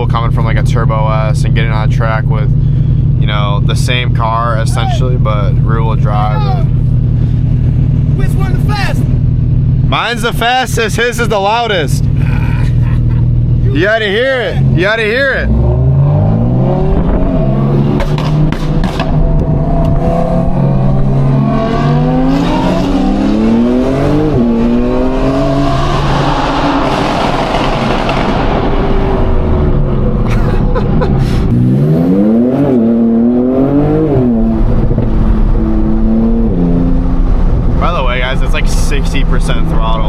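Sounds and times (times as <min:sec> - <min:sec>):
sports car engines accelerating hard: 0:00.0 - 0:40.0
rushing exhaust and wind noise: 0:02.4 - 0:40.0.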